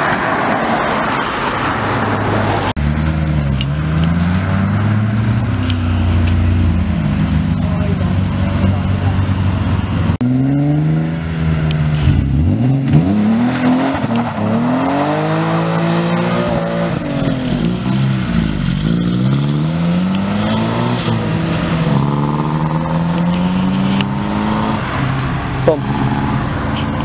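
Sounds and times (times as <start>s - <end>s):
cars accelerating and revving: 0.0s - 27.0s.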